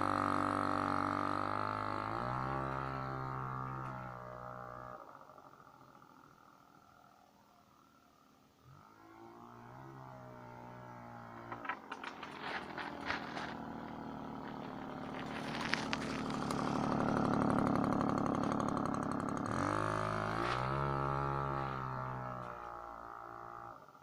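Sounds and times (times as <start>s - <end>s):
moped engine revving: 0.0s - 6.7s, 8.7s - 24.0s.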